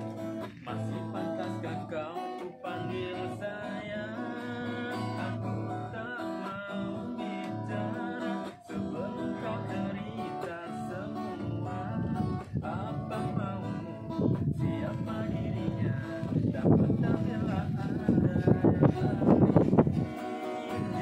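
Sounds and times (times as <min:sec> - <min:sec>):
acoustic guitar: 0:00.0 - 0:21.0
person singing ornamented melody: 0:00.0 - 0:21.0.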